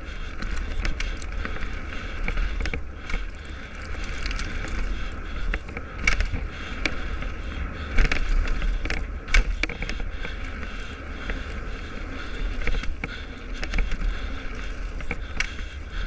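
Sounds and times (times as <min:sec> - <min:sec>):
bike knocking and rattling: 0:00.0 - 0:16.0
tyres crunching over gravel: 0:00.0 - 0:16.0
wind buffeting microphone: 0:00.0 - 0:16.0.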